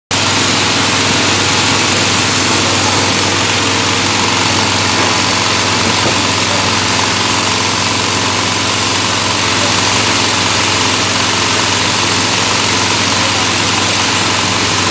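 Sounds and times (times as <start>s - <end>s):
small diesel engine running: 0.1s - 14.9s.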